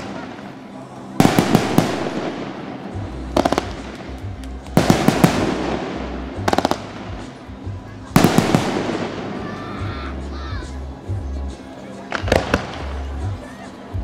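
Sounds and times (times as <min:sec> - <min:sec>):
fireworks bursting: 0:00.0 - 0:10.2, 0:12.0 - 0:13.4
fireworks crackling: 0:00.0 - 0:10.9, 0:11.6 - 0:14.0.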